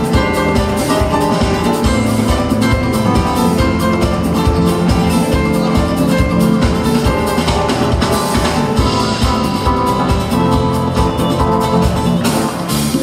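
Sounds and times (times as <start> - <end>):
drum kit beat: 0.0 - 13.0
live band playing instrumental: 0.0 - 13.0.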